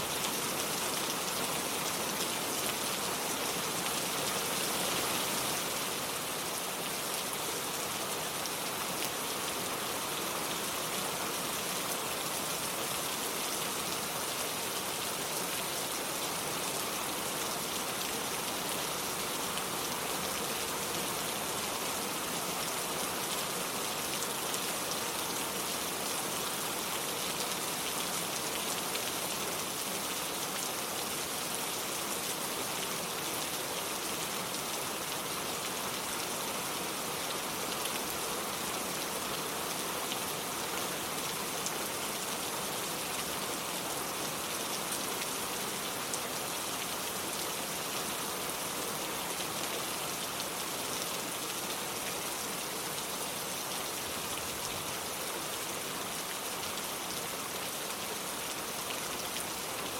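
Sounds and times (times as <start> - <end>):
rain on cobblestones: 0.0 - 59.9.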